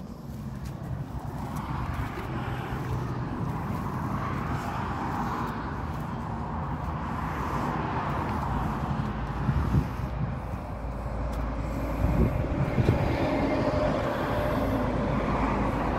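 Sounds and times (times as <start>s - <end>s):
tractor diesel engine running: 0.0s - 15.9s.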